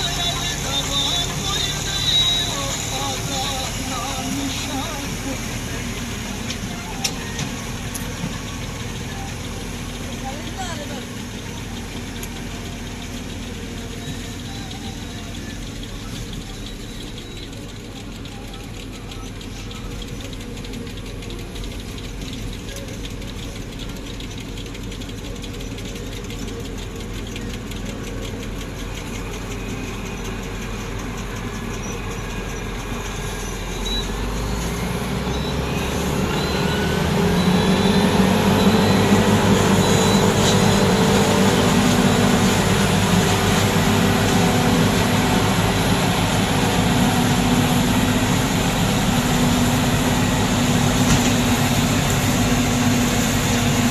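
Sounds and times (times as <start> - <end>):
rising machine whine: 0.0 - 53.9
tractor engine running: 0.0 - 53.9.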